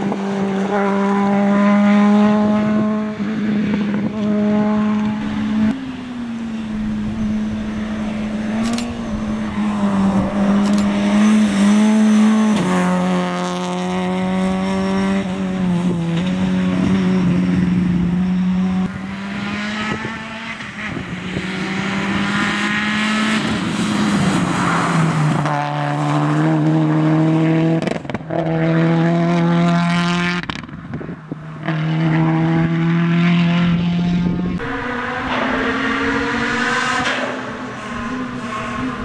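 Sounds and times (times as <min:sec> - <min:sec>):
rally car engines at high revs: 0:00.0 - 0:39.0.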